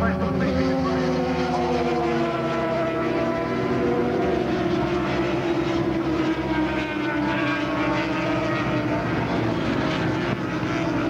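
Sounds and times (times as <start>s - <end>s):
racing motorcycles at high revs: 0.0s - 11.0s.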